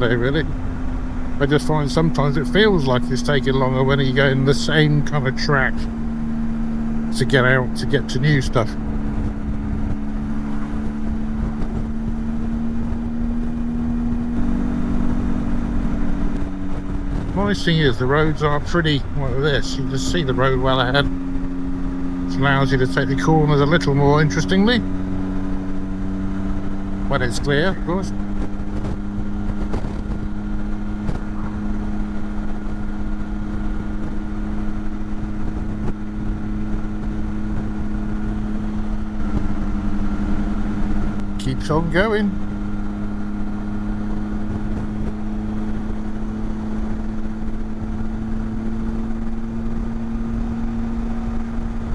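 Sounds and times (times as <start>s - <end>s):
motorcycle engine droning: 0.0s - 51.9s
wind and road rumble: 0.0s - 51.9s.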